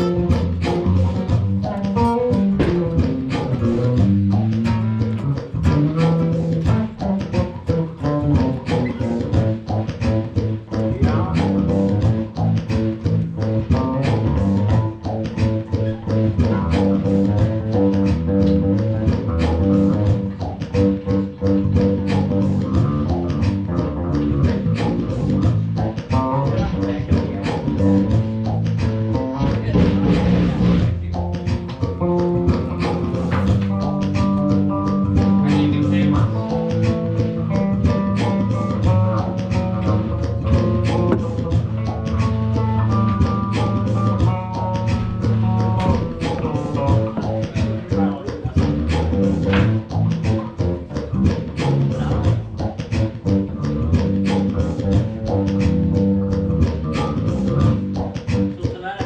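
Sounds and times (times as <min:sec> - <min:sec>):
steady drum beat: 0:00.0 - 0:59.0.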